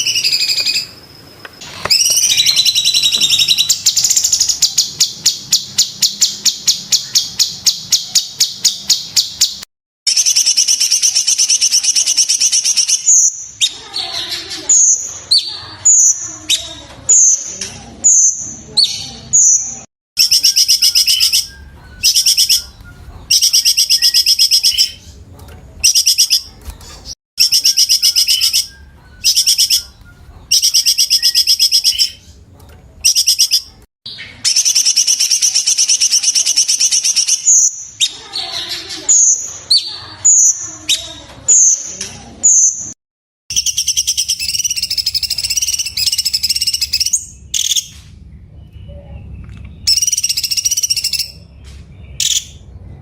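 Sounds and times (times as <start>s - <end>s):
bird trilling and whistling: 0.0s - 1.0s, 1.6s - 17.5s, 18.1s - 25.0s, 25.8s - 32.2s, 33.0s - 41.8s, 42.4s - 47.9s, 49.8s - 51.5s, 52.1s - 52.6s.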